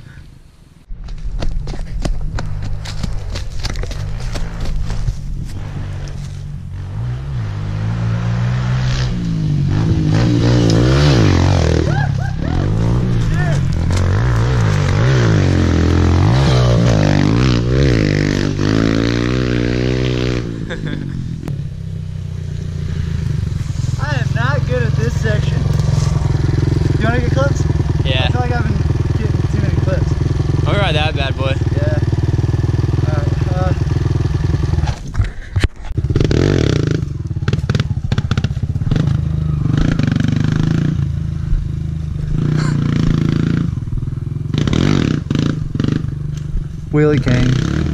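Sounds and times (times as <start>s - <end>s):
motorbike engine revving: 2.3s - 47.9s.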